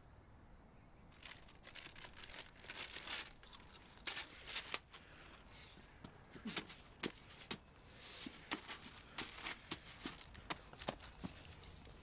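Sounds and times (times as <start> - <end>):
clothing rustling and crinkling: 1.1 - 12.0.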